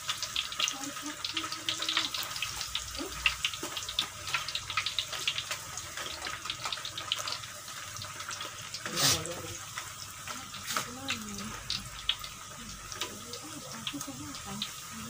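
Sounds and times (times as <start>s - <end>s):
crackers deep-frying in oil: 0.0s - 15.0s.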